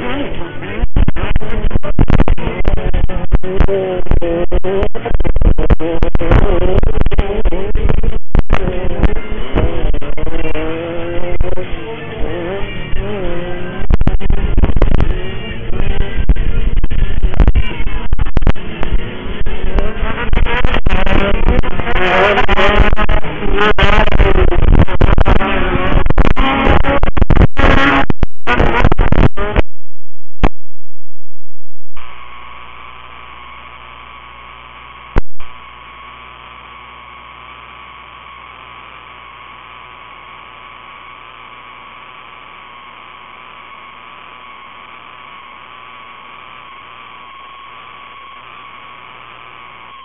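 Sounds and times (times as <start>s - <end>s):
distorted music and engine noise: 0.0s - 29.7s, 32.0s - 50.0s
electrical hum: 0.0s - 50.0s
high whine: 0.0s - 50.0s.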